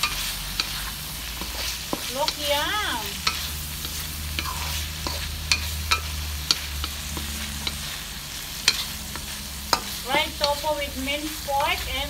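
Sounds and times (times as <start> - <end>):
spatula scraping and knocking pan: 0.0 - 7.9, 8.5 - 11.8
food sizzling in a wok: 0.0 - 12.0.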